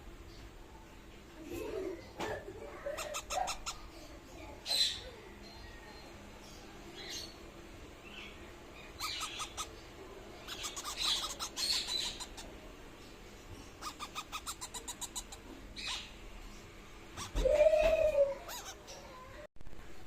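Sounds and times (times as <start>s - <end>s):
parrot chicks chirping: 2.0s - 19.4s.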